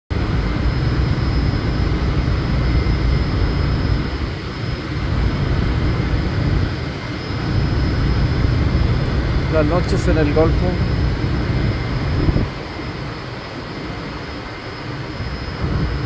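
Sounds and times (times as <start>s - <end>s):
gas flare roaring: 0.1s - 16.0s.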